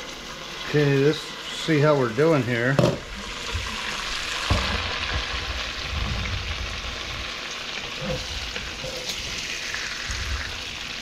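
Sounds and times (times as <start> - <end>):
bacon sizzling: 0.0 - 11.0.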